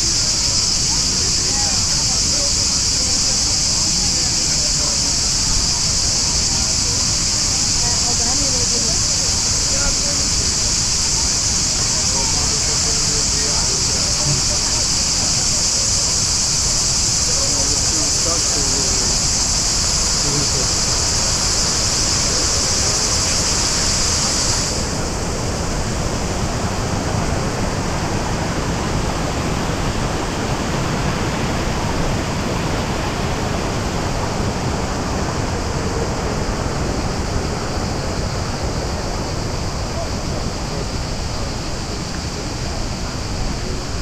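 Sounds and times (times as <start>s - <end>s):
cascading waterfall water: 0.0s - 44.0s
high steady buzz: 0.0s - 44.0s.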